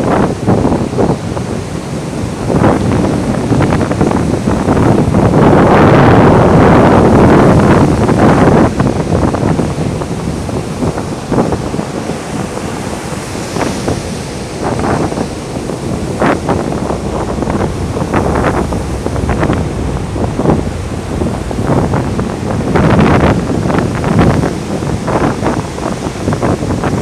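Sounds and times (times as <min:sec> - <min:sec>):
gusty wind buffeting microphone: 0:00.0 - 0:27.0
surf washing: 0:00.0 - 0:27.0.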